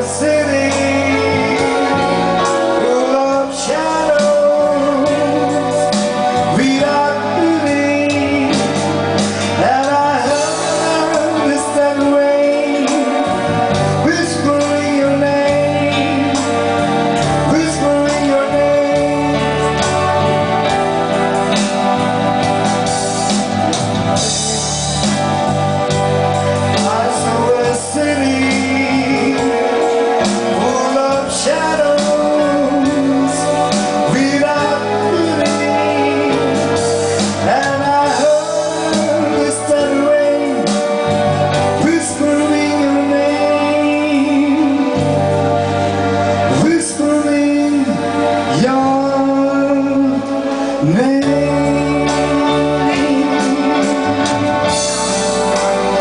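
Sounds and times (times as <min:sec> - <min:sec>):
live band music: 0:00.0 - 0:56.0
sliding melody line: 0:00.0 - 0:56.0.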